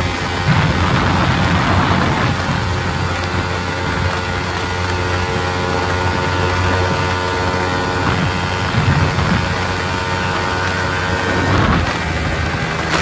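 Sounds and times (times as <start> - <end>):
motorcycle engine running hard: 0.0 - 13.0
wind noise on microphone: 0.0 - 13.0.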